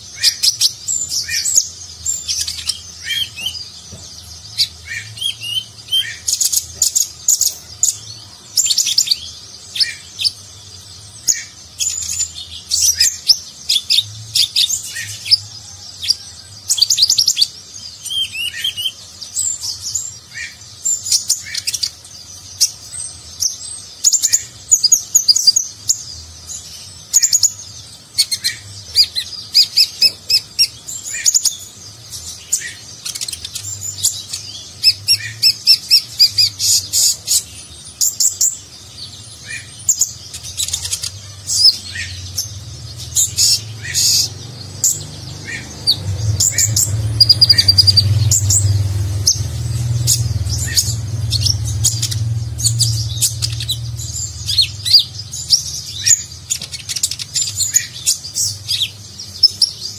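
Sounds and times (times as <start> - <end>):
bird twittering chirps and trills: 0.0 - 59.9.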